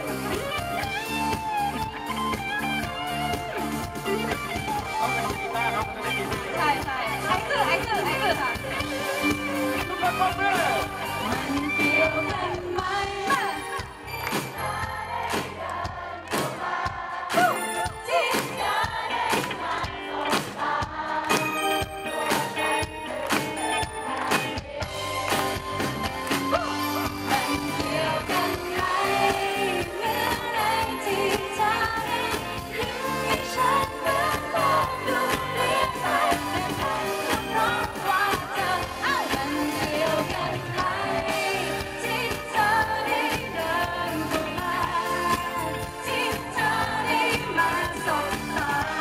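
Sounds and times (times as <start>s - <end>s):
live pop band playing: 0.0s - 49.0s.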